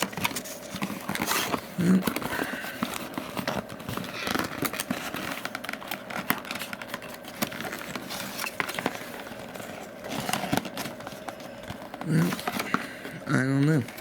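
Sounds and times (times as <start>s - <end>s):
packaging clicks and rustles: 0.0s - 14.0s.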